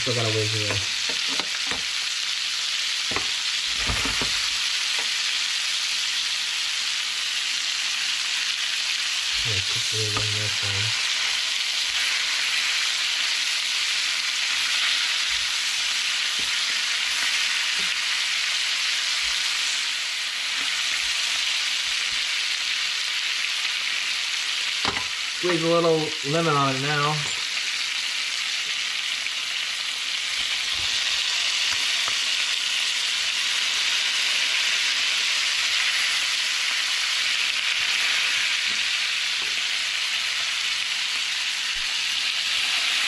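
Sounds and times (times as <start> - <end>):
fish sizzling in a pan: 0.0 - 43.0.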